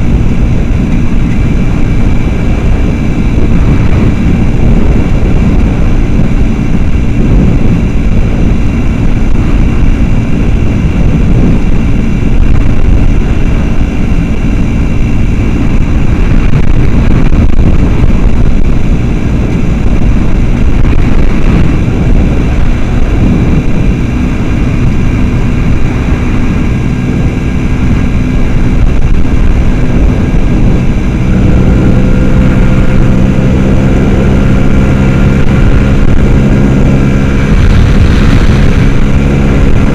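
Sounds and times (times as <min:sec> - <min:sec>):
small motorcycle engine running: 0:00.0 - 0:39.9
wind rumble on microphone: 0:00.0 - 0:39.9.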